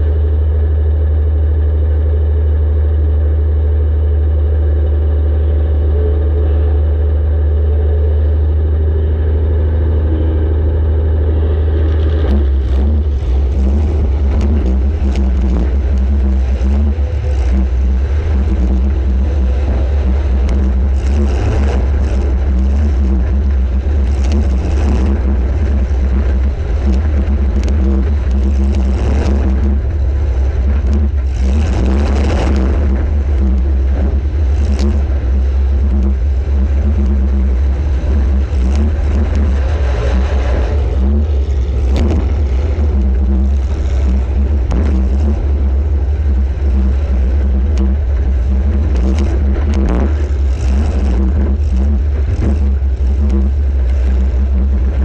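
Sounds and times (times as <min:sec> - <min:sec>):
car engine running hard: 0:00.0 - 0:55.0.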